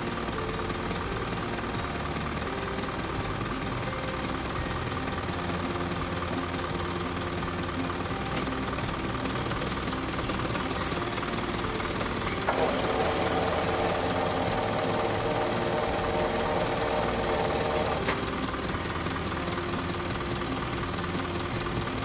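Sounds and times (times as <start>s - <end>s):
high steady whine: 0.0s - 22.0s
truck engine idling: 0.0s - 22.0s.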